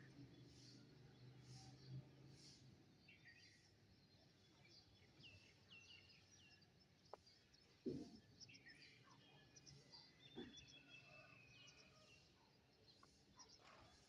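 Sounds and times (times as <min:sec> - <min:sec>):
songbird chirps: 0:00.0 - 0:14.0.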